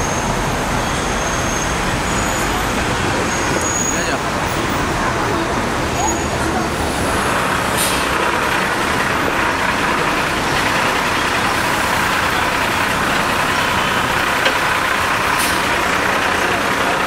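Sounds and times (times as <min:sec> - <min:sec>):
bus engine running: 0:00.0 - 0:17.0
street traffic noise: 0:00.0 - 0:17.0.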